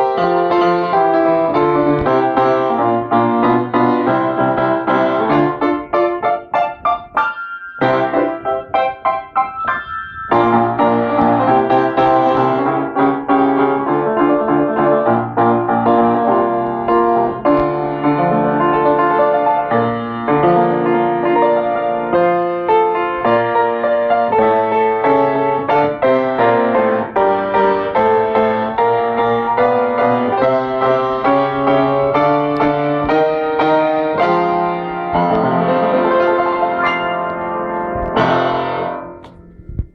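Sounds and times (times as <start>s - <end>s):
solo piano improvisation: 0.0s - 39.9s.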